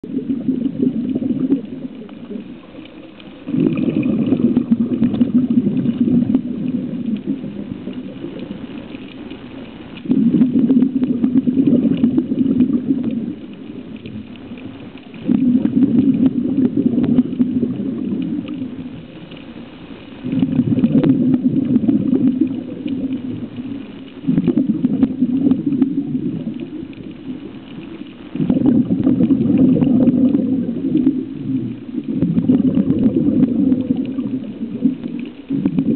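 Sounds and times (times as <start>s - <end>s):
underwater bubbles rumbling: 0.0s - 35.9s.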